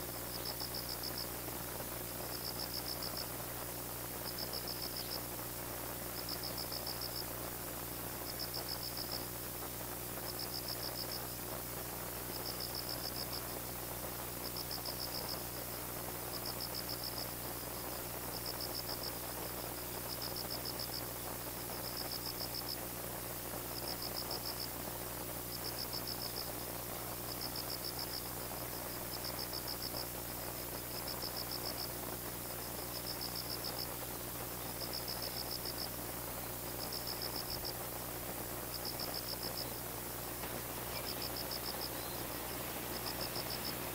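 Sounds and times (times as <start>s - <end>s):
steady low hum: 0.0s - 43.9s
cricket chirping in pulsed trills: 0.3s - 1.4s, 2.2s - 3.3s, 4.2s - 5.4s, 6.1s - 7.2s, 8.2s - 9.3s, 10.2s - 11.3s, 12.2s - 13.6s, 14.4s - 22.8s, 23.7s - 24.8s, 25.4s - 26.6s, 27.2s - 43.9s.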